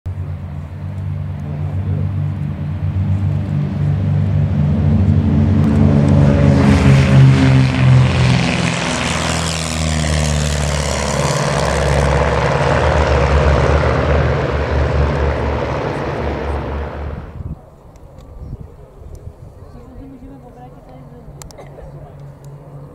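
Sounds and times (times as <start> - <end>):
propeller aircraft droning past: 0.1 - 22.9.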